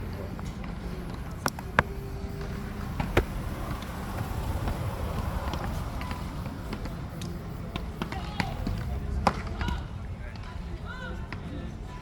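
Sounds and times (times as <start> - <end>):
outdoor background hum: 0.0 - 12.0.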